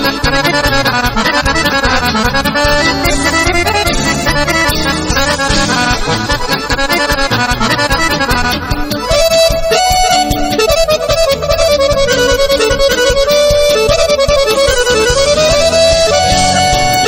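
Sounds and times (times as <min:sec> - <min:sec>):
accordion-led folk music: 0:00.0 - 0:17.0.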